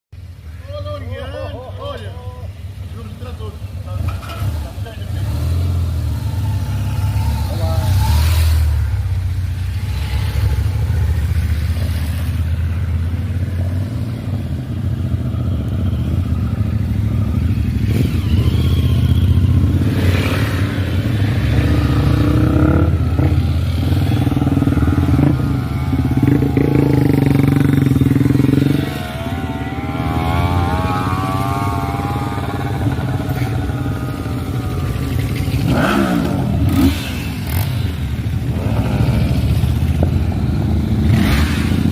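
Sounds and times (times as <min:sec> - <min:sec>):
motorcycle engines revving: 0:00.2 - 0:41.9.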